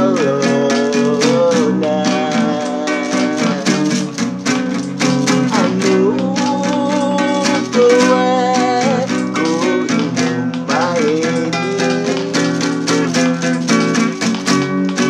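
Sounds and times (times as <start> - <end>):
man singing: 0.0 - 14.1
strummed classical guitar: 0.0 - 15.0.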